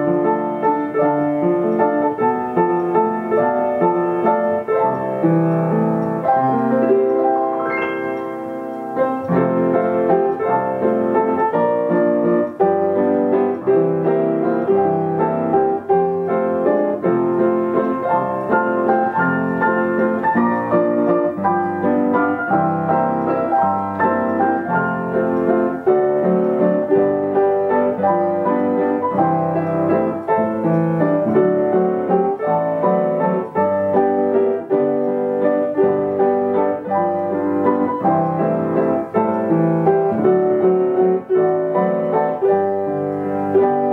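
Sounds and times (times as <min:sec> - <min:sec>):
upright piano playing chords: 0:00.0 - 0:43.9.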